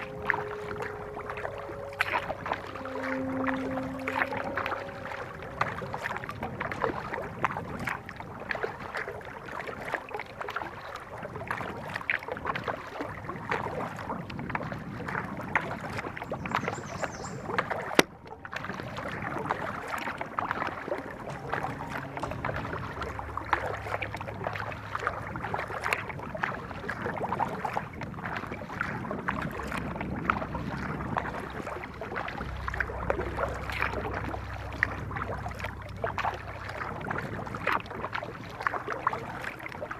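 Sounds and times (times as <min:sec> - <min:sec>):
paddle splashing and dripping: 0:00.0 - 0:39.9.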